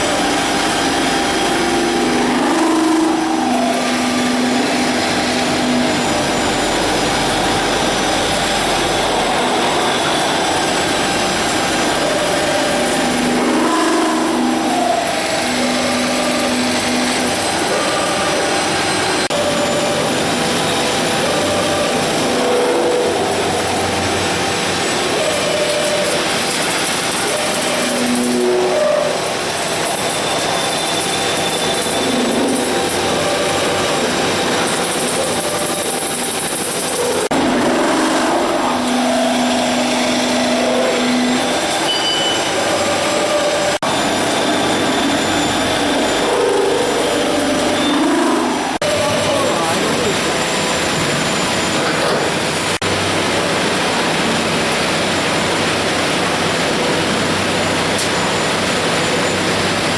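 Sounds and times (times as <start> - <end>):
drilling machine running: 0.0 - 59.9
machine whining tones: 0.0 - 59.9.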